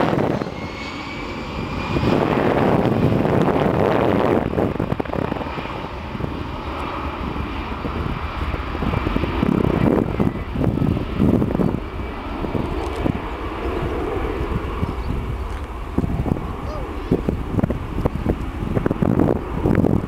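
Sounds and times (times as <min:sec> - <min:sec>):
high engine whine: 0:00.0 - 0:20.0
jet engines at takeoff power: 0:00.0 - 0:20.0.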